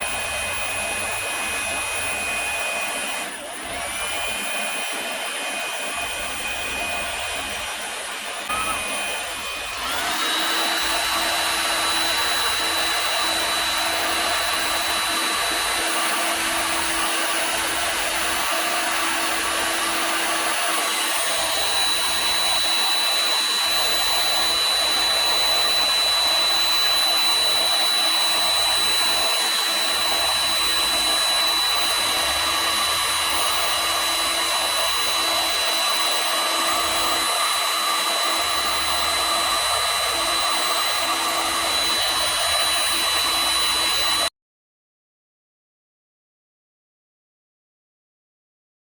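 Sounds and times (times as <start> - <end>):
hot air gun blowing with motor whine: 0.0 - 44.3.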